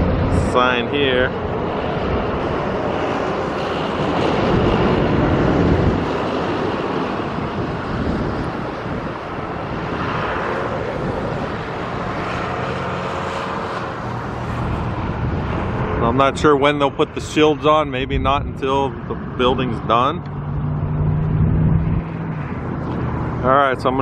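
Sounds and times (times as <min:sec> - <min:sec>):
engine rumble: 0:00.0 - 0:24.0.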